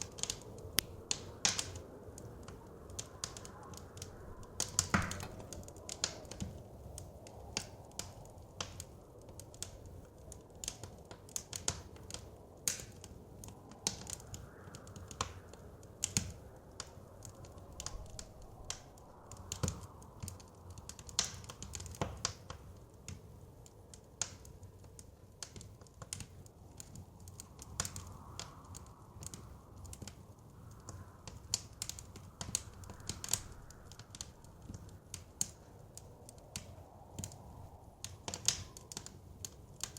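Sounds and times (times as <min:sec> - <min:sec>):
blizzard wind rushing: 0:00.0 - 0:11.1, 0:11.9 - 0:22.0, 0:26.5 - 0:39.9
wood fire crackling and popping: 0:00.0 - 0:39.9.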